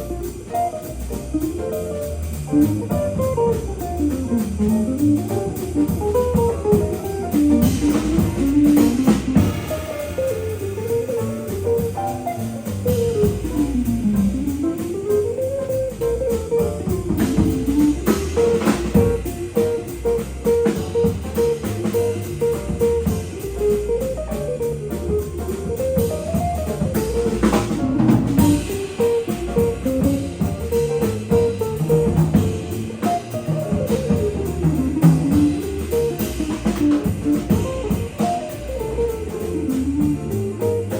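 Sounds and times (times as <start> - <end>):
small jazz band playing: 0.0 - 40.9.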